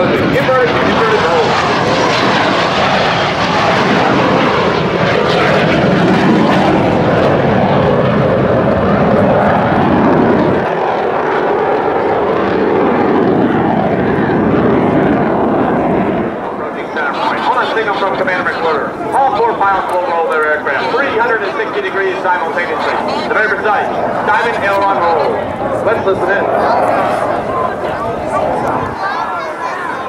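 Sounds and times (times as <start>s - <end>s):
jet flying overhead: 0.0s - 30.0s.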